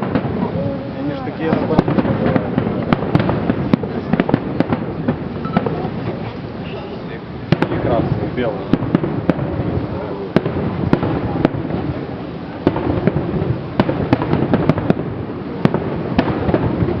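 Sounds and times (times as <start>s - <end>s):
fireworks shells bursting: 0.0s - 17.0s
rumble of fireworks bursts: 0.0s - 17.0s.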